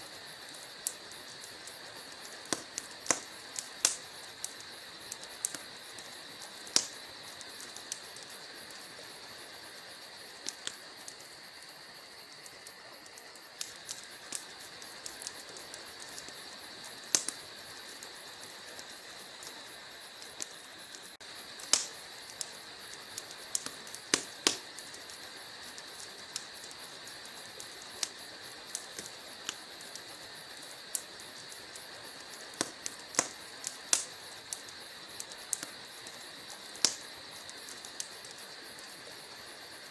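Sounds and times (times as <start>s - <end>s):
steady fire hiss: 0.0s - 39.9s
wood fire crackling: 0.0s - 39.9s
burning logs popping and snapping: 0.3s - 9.2s, 10.1s - 11.7s, 12.3s - 39.2s.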